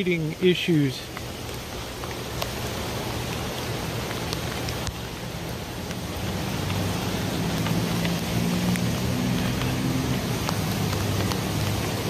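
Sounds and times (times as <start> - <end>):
flooded creek rushing: 0.0 - 12.0
rain falling: 0.0 - 12.0
raindrop ticks: 0.0 - 12.0.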